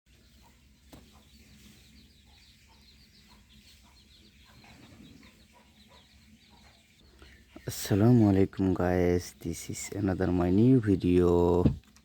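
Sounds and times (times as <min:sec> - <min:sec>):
faint rapid bird chirping: 0:00.1 - 0:11.7.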